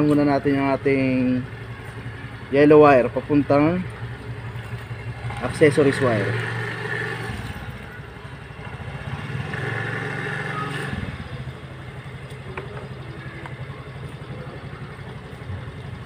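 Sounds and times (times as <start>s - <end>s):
small engine humming: 0.0s - 16.0s.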